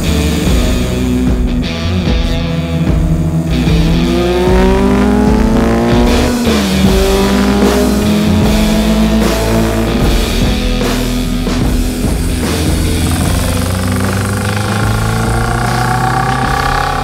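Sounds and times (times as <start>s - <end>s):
motorcycle engine accelerating: 0.0s - 17.0s
rock music: 0.0s - 17.0s.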